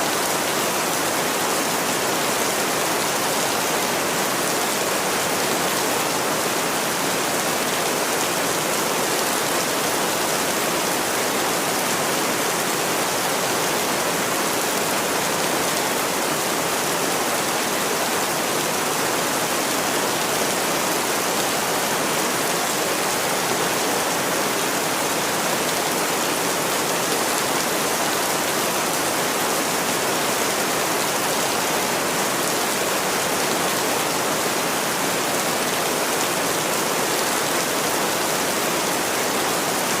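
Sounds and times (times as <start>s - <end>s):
steady rainfall: 0.0s - 40.0s.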